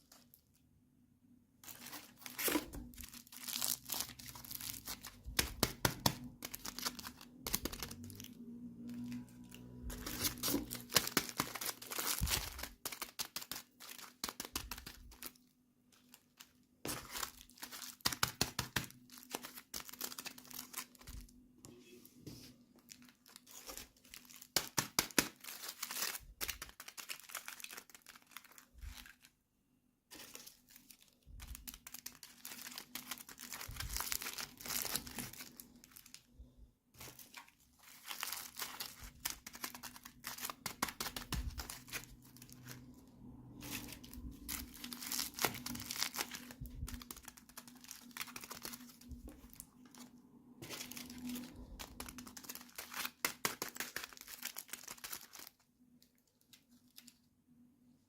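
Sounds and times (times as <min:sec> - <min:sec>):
packaging crinkling and tearing: 0:01.6 - 0:21.4, 0:22.8 - 0:29.4, 0:30.1 - 0:36.3, 0:37.0 - 0:57.3.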